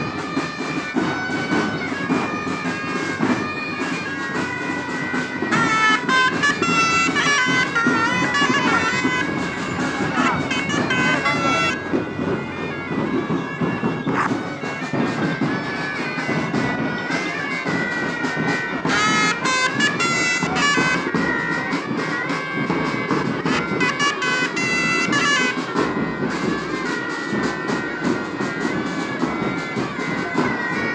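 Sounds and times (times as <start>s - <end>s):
bagpipes playing melody: 0.0s - 30.9s
marching drums: 0.0s - 30.9s.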